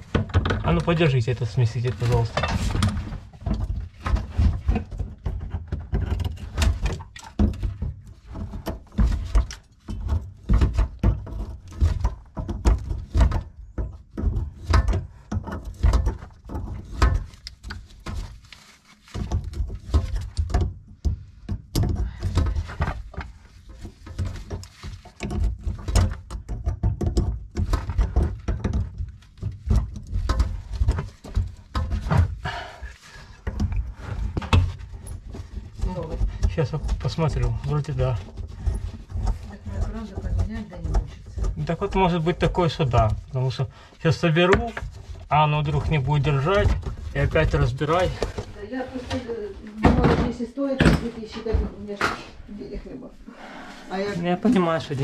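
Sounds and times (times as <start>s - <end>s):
tools and metal parts knocking: 0.0s - 51.7s.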